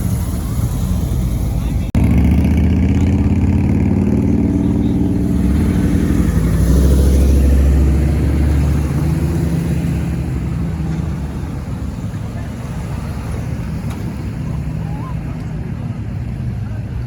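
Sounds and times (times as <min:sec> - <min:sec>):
car engine running loudly: 0:00.0 - 0:17.0.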